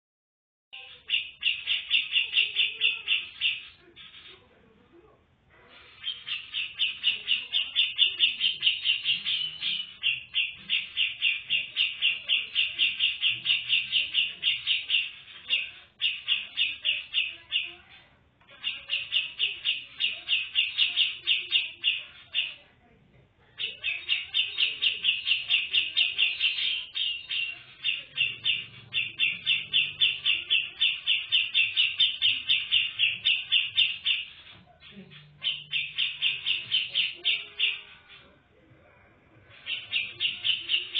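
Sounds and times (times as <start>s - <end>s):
bird chattering: 0.8s - 4.5s, 5.7s - 22.7s, 23.4s - 38.4s, 39.3s - 40.9s.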